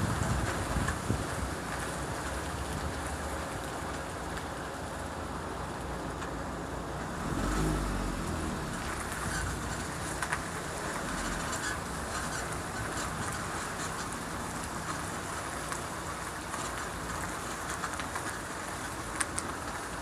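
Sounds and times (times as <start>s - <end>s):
road and tyre noise: 0.0s - 20.0s.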